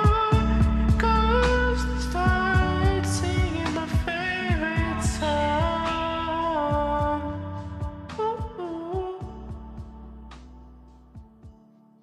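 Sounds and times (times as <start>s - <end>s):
deep kick drum beat: 0.0s - 10.1s, 11.2s - 11.6s.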